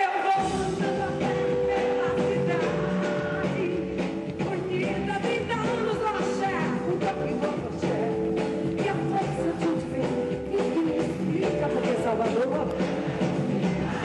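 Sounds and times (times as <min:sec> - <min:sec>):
live band music: 0:00.0 - 0:14.0
woman singing into microphone: 0:00.0 - 0:14.0.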